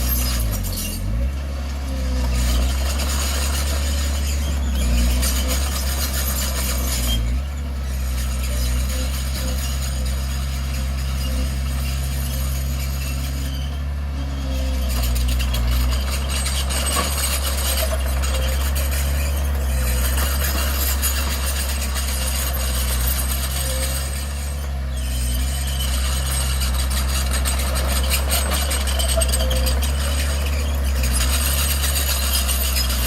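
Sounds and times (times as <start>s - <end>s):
continuous clatter: 0.0s - 33.0s
heavy diesel engine running: 0.0s - 33.0s.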